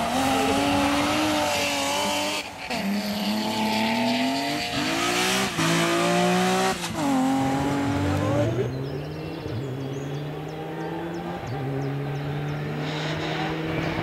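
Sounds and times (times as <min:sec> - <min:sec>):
rally car engine at full throttle: 0:00.0 - 0:14.0.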